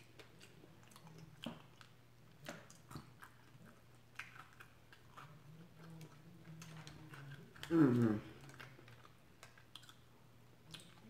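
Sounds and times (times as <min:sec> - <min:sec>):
chewing mouth clicks and smacks: 0:00.0 - 0:11.0.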